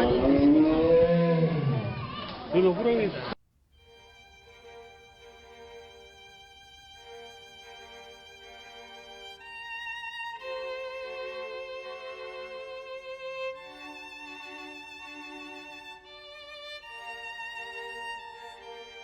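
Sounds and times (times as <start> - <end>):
violin playing slow notes: 3.7 - 19.0.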